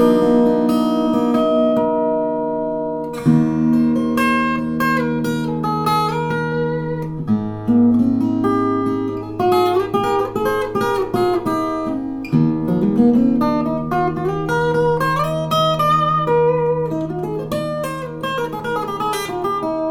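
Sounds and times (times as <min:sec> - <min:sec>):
acoustic guitar chords and melody: 0:00.0 - 0:19.9.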